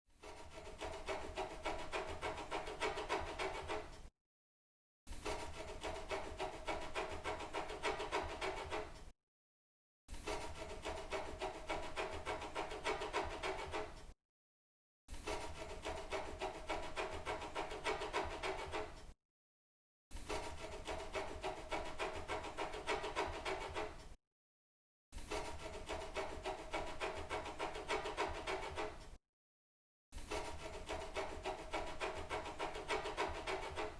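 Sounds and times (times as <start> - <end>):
quick scratching strokes: 0.2 - 4.1, 5.1 - 9.1, 10.1 - 14.1, 15.1 - 19.2, 20.1 - 24.2, 25.2 - 29.2, 30.2 - 33.9.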